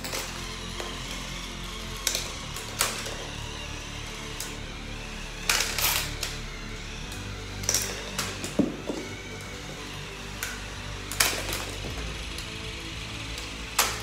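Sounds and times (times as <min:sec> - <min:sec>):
motor whirring: 0:00.0 - 0:14.0.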